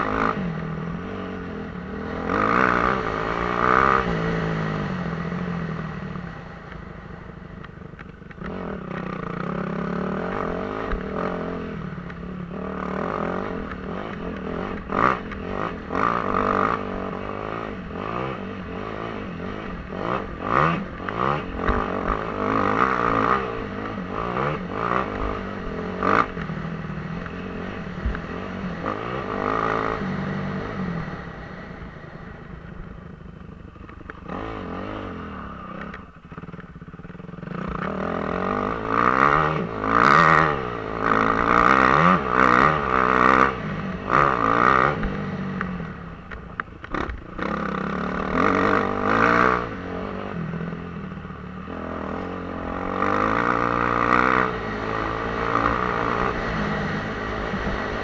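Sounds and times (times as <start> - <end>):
dirt bike engine revving: 0.0 - 6.5, 8.3 - 32.5, 33.8 - 58.0.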